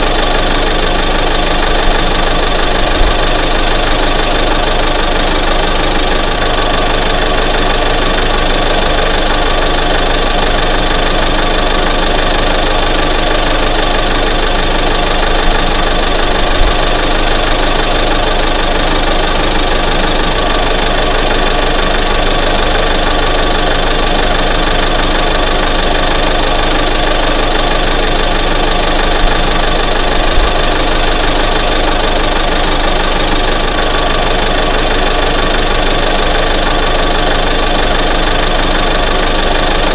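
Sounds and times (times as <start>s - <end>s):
truck engine running steadily: 0.0s - 39.9s.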